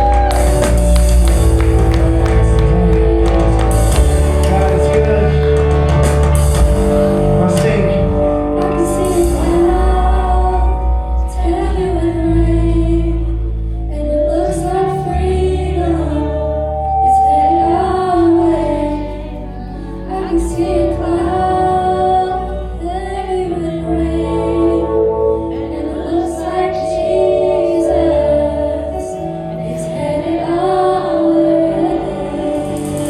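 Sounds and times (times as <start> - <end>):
band with sustained bass: 0.0 - 33.0.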